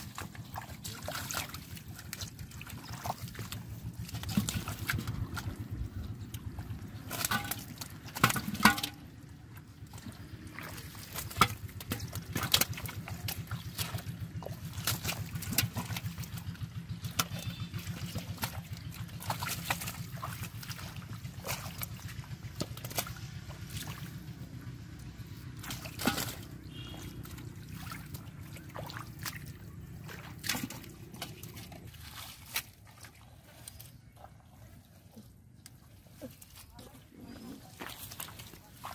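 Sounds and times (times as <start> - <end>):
hands sloshing through muddy water: 0.0 - 38.9
water splashes and slaps: 0.0 - 38.9.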